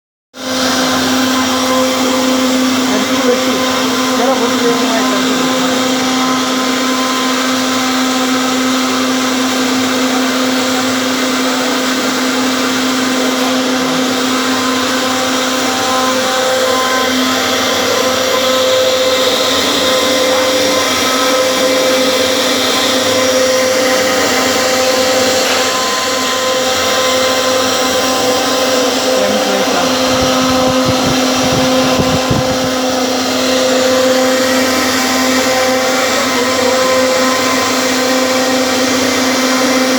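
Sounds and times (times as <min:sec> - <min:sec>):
router spindle whining carving wood: 0:00.4 - 0:39.9.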